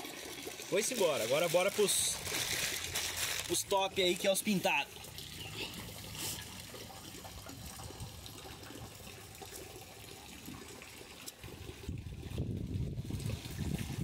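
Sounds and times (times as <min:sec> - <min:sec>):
water trickling into fish tank: 0:00.0 - 0:14.0.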